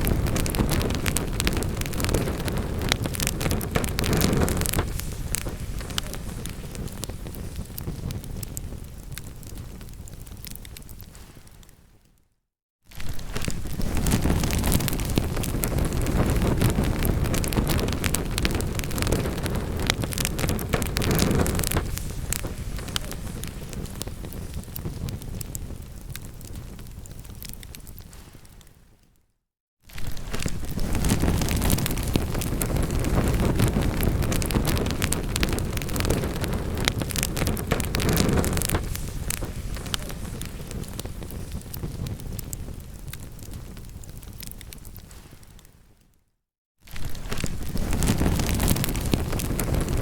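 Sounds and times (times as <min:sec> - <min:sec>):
low rumble of flames: 0:00.0 - 0:11.8, 0:12.9 - 0:28.8, 0:29.9 - 0:46.0, 0:46.9 - 0:50.0
wood fire crackling and popping: 0:00.0 - 0:12.0, 0:12.9 - 0:28.8, 0:29.9 - 0:46.1, 0:46.9 - 0:50.0.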